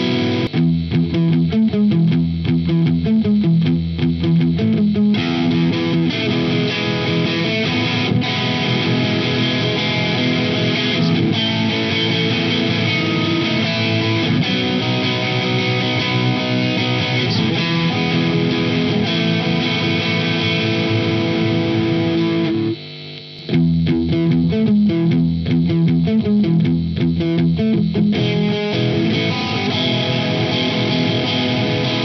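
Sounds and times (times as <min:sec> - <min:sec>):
overdriven electric guitar chords: 0:00.0 - 0:32.0
picked electric guitar notes: 0:00.0 - 0:32.0.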